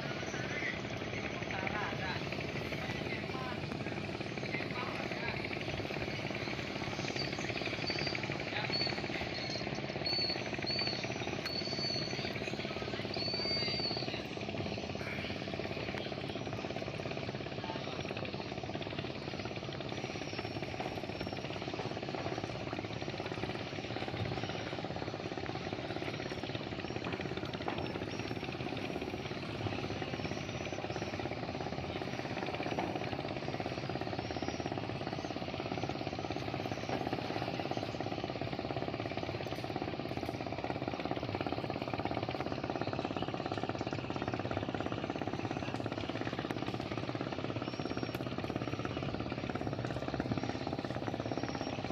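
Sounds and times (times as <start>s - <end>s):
speedboat engine drone: 0.0s - 51.9s.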